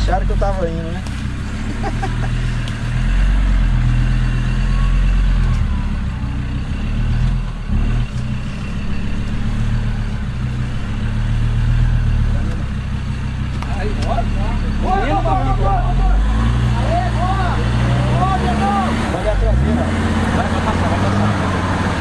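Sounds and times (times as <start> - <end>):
jeep engine under load: 0.0 - 22.0.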